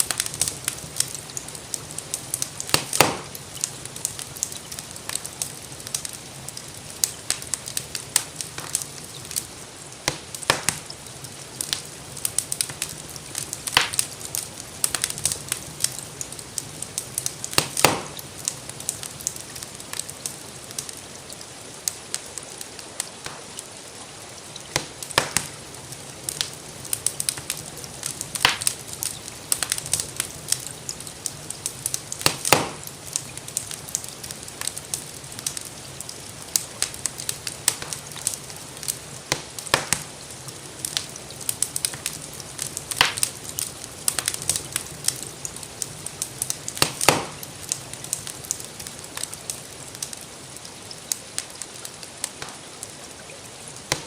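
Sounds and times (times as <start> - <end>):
gentle rain hissing: 0.0 - 54.0
wood fire crackling: 0.0 - 54.0.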